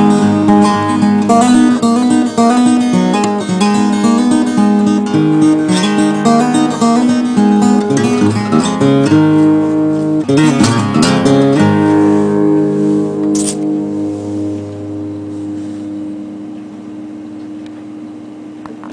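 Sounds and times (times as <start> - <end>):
acoustic guitar playing: 0.0 - 18.9.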